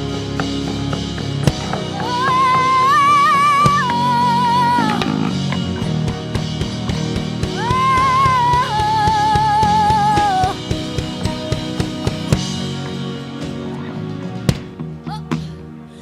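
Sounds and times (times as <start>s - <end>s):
church band music: 0.0s - 15.0s.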